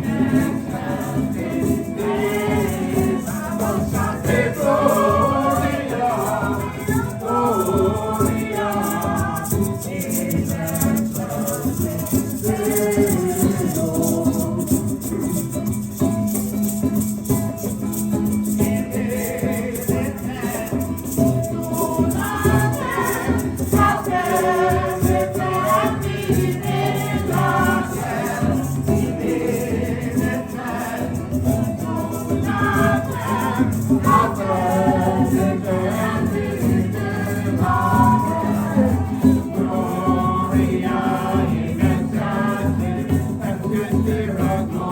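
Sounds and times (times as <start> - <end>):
maraca shaking: 0.0 - 44.9
voices singing together: 0.0 - 44.9.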